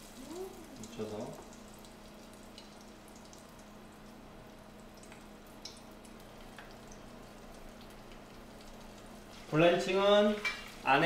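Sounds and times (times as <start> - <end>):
onion rings frying in oil: 0.0 - 11.0.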